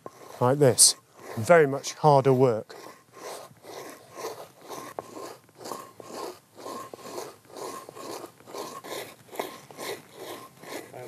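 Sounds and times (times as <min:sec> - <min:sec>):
stone scraping on stone grinding grain: 0:00.0 - 0:11.0.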